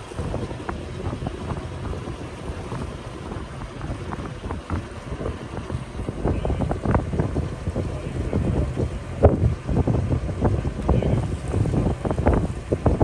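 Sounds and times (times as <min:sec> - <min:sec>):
rush of moving water: 0:00.0 - 0:13.0
wind buffeting microphone: 0:00.0 - 0:13.0.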